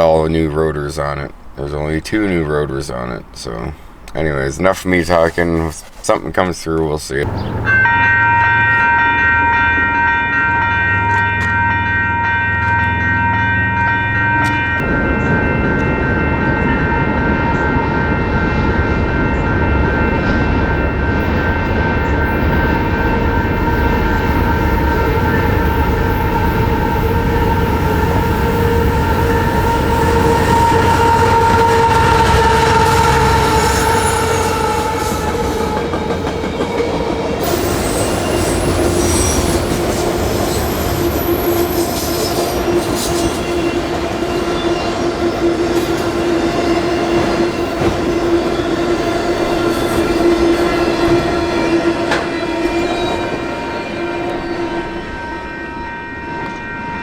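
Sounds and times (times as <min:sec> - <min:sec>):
train rumbling past: 0:00.0 - 0:57.0
wheels squealing on rails: 0:07.2 - 0:57.0.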